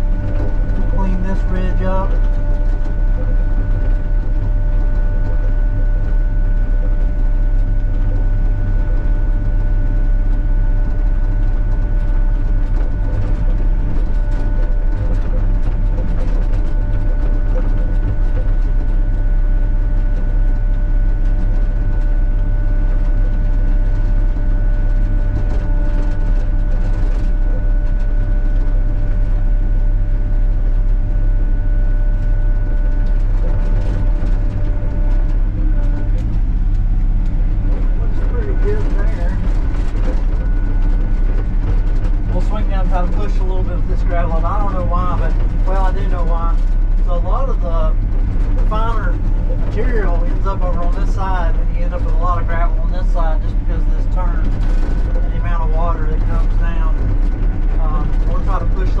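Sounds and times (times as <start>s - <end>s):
excavator diesel engine running: 0.0s - 59.0s
steady whine: 0.0s - 59.0s.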